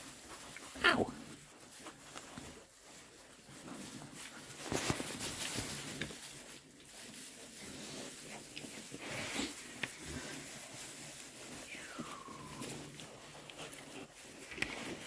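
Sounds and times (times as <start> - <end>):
piglets rustling in straw: 0.0 - 15.0.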